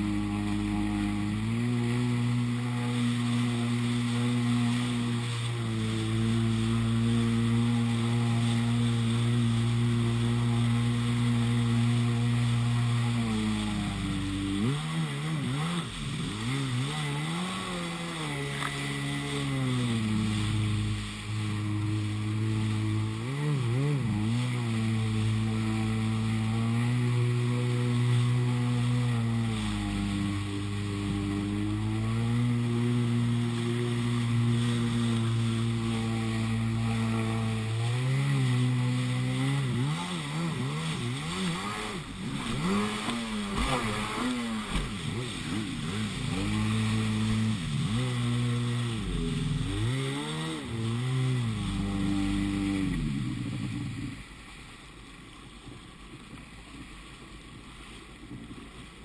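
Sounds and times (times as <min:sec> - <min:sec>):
jet ski engine revving: 0:00.0 - 0:59.0.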